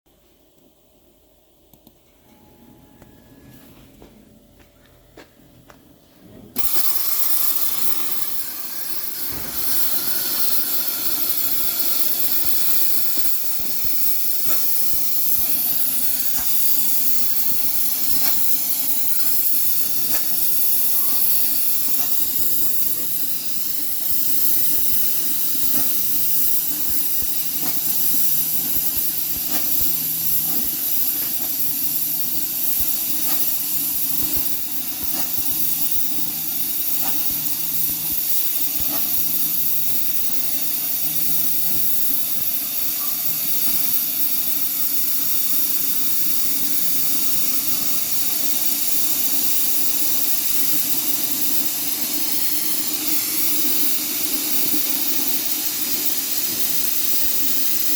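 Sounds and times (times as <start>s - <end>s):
low tone switching on and off: 6.6s - 57.9s
plasma cutter hissing: 6.6s - 57.9s.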